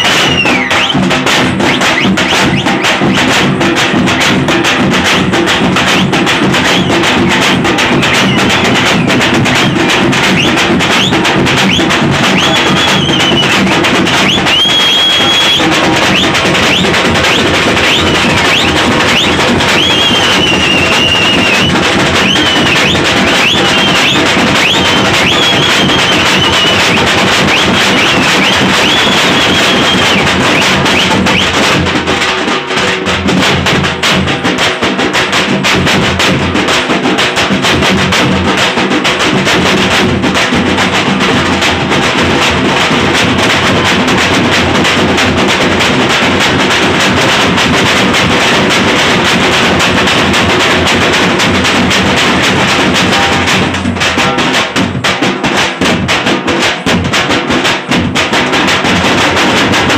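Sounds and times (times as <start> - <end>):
frame drums beaten with sticks: 0.0 - 59.9.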